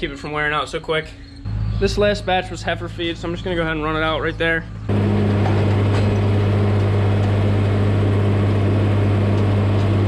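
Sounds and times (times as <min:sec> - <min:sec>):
feed mixer augers humming: 0:01.5 - 0:10.0
tractor engine running: 0:01.5 - 0:10.0.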